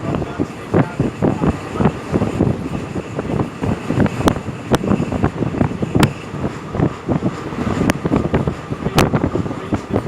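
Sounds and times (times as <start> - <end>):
vehicle rattle and rumble: 0.0 - 10.0
wind buffeting microphone: 0.0 - 10.0.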